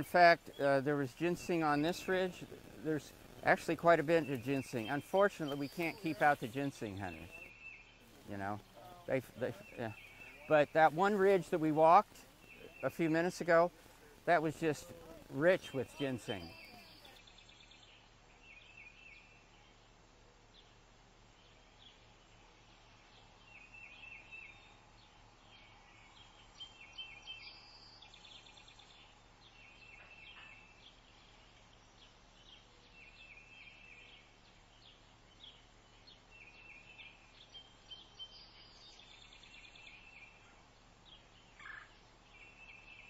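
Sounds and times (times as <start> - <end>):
faint birdsong: 0.0 - 43.0.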